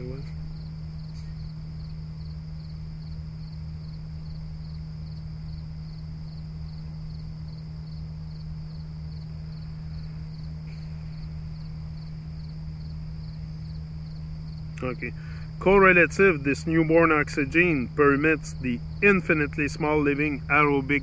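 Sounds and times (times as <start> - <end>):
cricket chirping: 0.0 - 21.0
steady low hum: 0.0 - 21.0.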